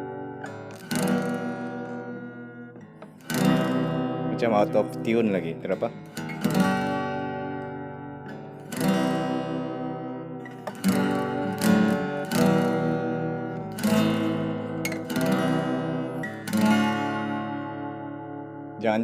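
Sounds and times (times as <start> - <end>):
acoustic guitar strummed: 0.0 - 19.0.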